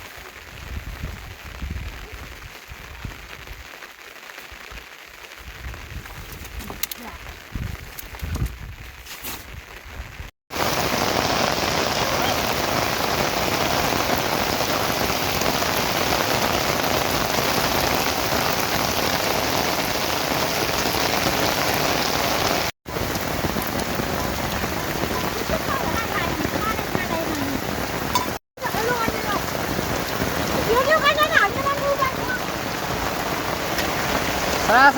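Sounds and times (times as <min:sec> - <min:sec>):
heavy rain falling: 0:00.0 - 0:07.6, 0:09.5 - 0:34.9.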